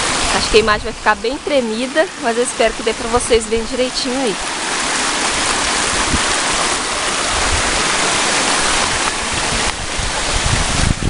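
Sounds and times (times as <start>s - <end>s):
small waterfall rushing: 0.0s - 11.0s.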